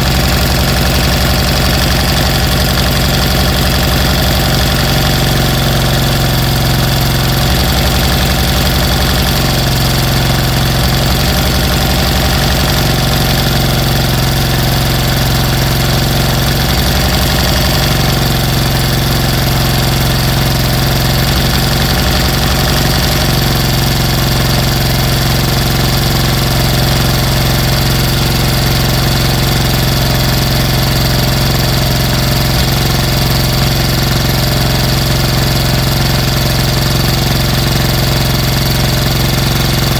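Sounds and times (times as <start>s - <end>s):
engine running with low hum: 0.0s - 39.9s
rapid low pulsing: 0.0s - 39.9s.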